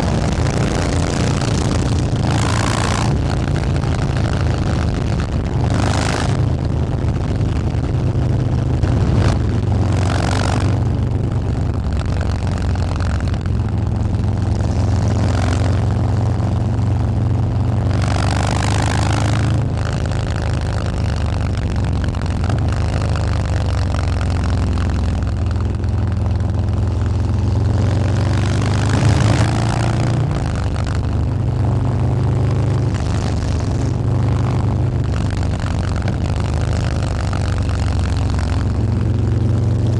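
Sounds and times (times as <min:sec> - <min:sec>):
motorcycle exhaust deep note: 0:00.0 - 0:39.9.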